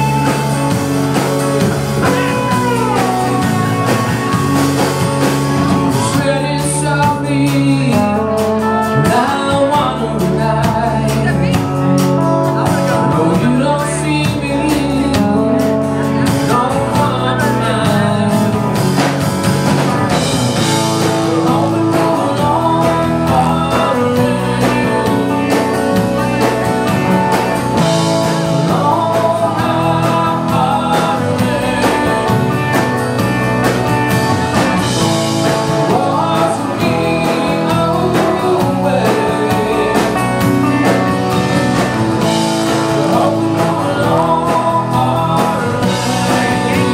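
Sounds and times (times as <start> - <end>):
man singing: 0.0 - 4.4, 5.6 - 19.3, 20.1 - 46.9
drums: 0.0 - 46.9
electric guitar: 0.0 - 46.9
strummed acoustic guitar: 0.0 - 46.9.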